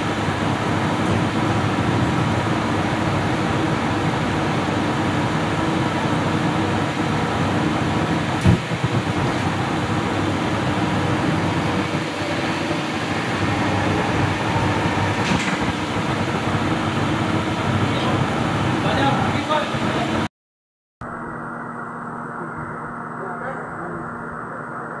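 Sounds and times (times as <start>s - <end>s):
loud machine hum: 0.0s - 20.3s, 21.0s - 25.0s.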